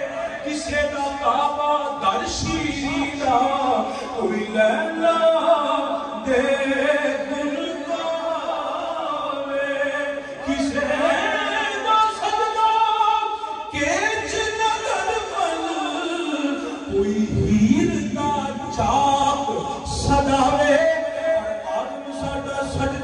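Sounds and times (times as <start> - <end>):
person singing devotional song: 0.0 - 23.0.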